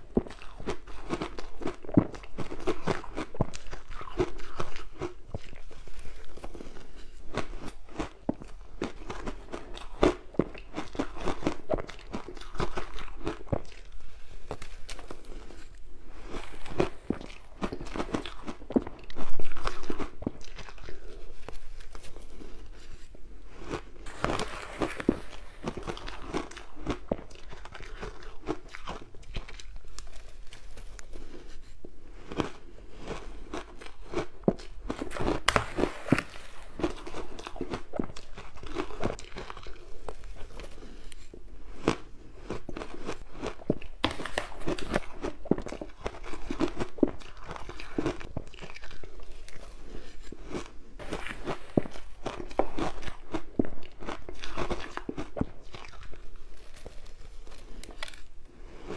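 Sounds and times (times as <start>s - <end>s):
ice being chewed crunching: 0.0s - 58.9s.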